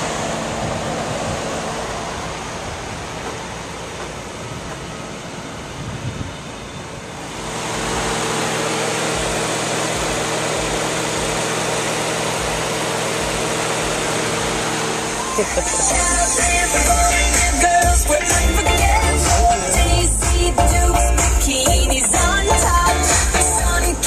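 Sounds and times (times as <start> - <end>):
car engine idling: 0.0 - 5.9, 6.6 - 24.0.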